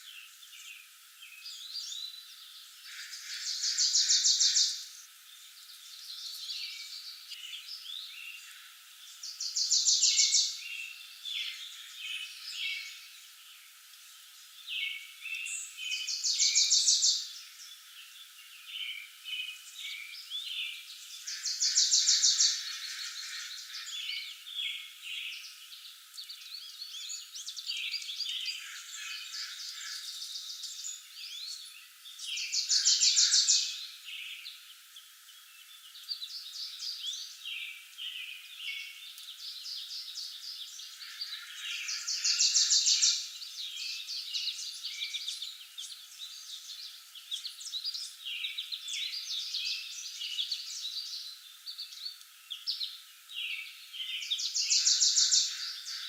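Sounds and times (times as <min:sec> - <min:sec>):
songbirds chirping and warbling: 0:00.0 - 0:56.0.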